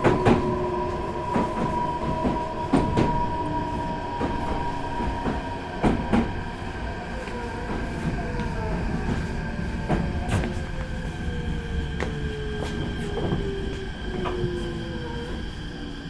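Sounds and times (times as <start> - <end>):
electric train rumbling and whining: 0.0 - 16.0.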